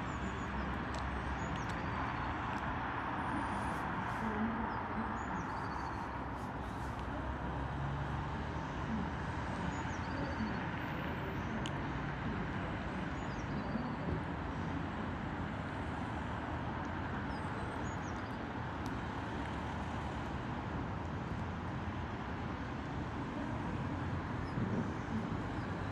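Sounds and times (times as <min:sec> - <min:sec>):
road traffic rumble: 0:00.0 - 0:25.9.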